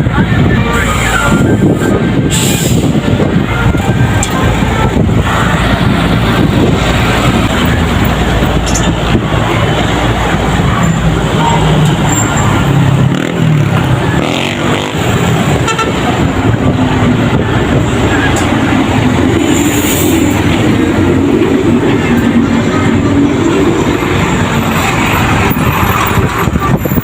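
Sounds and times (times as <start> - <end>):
trucks engines running: 0.0 - 27.0.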